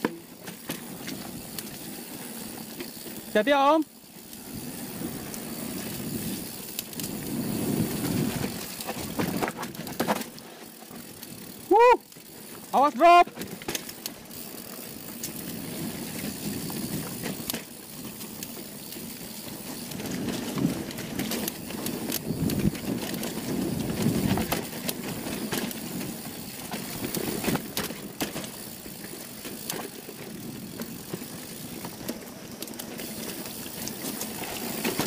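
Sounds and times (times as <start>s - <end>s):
bike knocking and rattling: 0.0s - 35.0s
bike tyres rolling over dirt: 0.0s - 35.0s.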